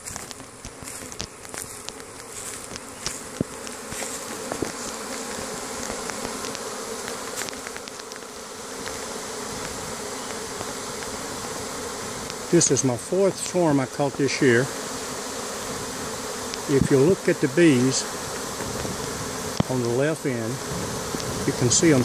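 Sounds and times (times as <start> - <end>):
bee swarm buzzing: 0.0 - 22.0.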